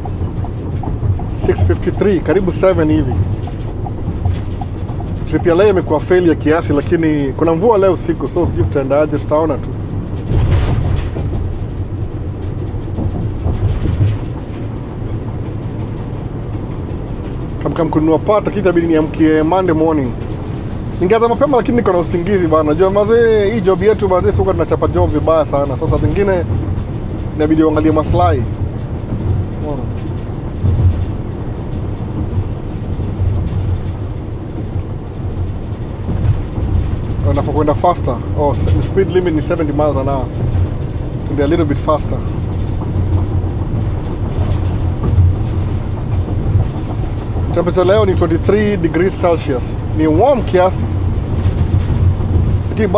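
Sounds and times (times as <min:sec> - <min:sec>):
car engine hum: 0:00.0 - 0:52.9
road and tyre rumble: 0:00.0 - 0:52.9.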